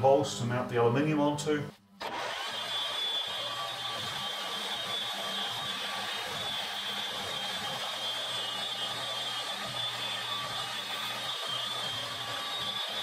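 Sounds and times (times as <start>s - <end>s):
milling machine running: 2.0s - 13.0s.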